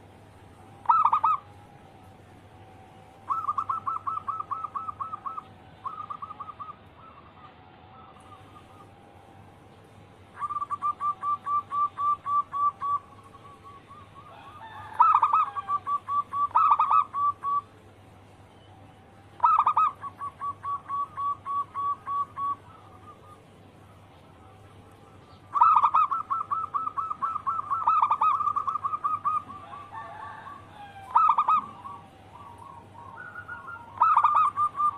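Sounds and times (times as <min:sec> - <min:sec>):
doves cooing: 0:00.0 - 0:34.9.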